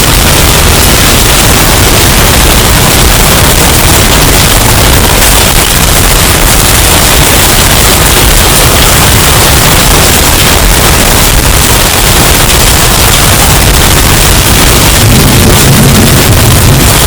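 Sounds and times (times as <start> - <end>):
distorted storm wind: 0.0 - 17.0.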